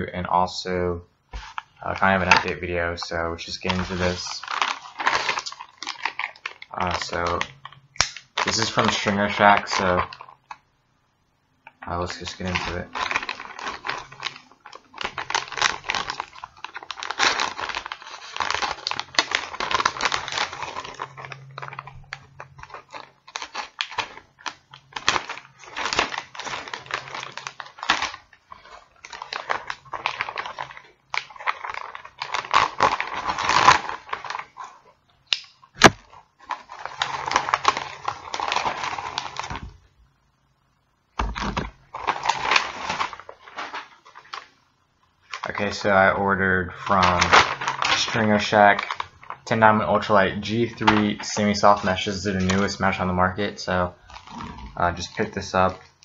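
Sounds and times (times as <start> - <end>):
plastic bag crinkling: 1.4 - 10.6, 11.6 - 39.8, 41.2 - 56.0.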